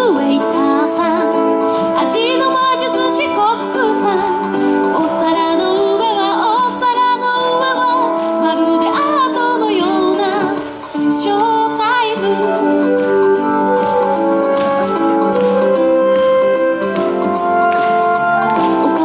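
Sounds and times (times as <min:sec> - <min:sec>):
woman singing: 0:00.0 - 0:16.5, 0:18.4 - 0:19.0
instrumental backing: 0:00.0 - 0:19.0.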